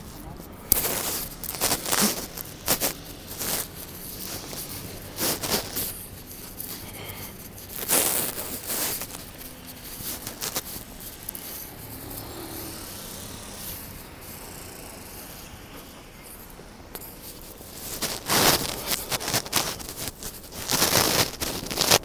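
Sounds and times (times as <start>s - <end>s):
loud rustling bursts: 0.0s - 22.0s
traffic: 0.0s - 22.0s.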